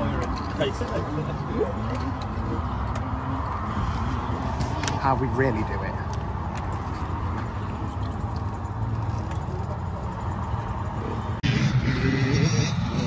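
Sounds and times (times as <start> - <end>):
dirt bike engines running: 0.0 - 13.0.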